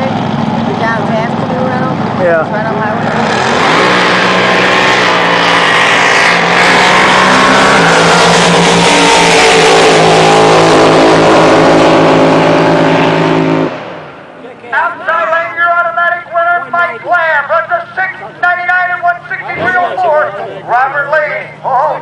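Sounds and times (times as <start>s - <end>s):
drag boat engines roaring: 0.0s - 22.0s.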